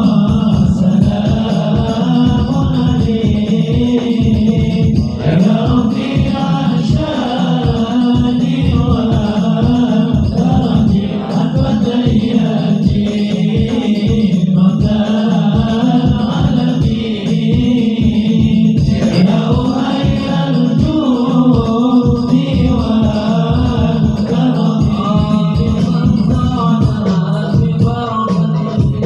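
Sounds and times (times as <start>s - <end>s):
low beat: 0.0s - 29.0s
voices chanting a hymn: 0.0s - 29.0s.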